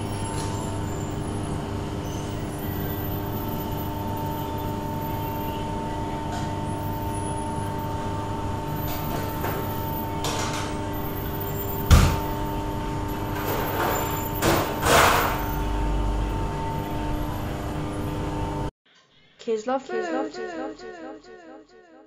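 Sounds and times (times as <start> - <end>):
steady mechanical hum: 0.0 - 18.7.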